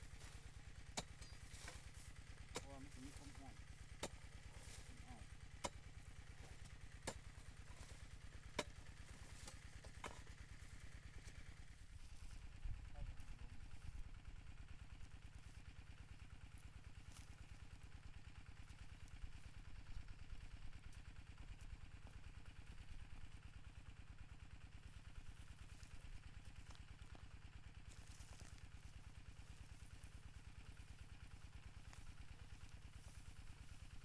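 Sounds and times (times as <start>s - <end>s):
small engine running: 0.0s - 34.0s.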